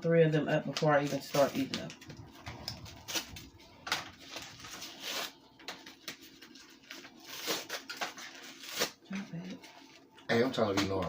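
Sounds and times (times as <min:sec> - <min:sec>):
wrapping rustling and crinkling: 0:00.7 - 0:10.4.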